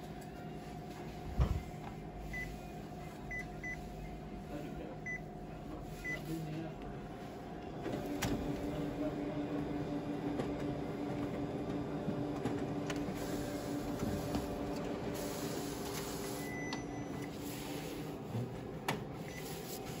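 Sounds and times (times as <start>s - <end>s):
printer mechanical hum: 0.0s - 20.0s.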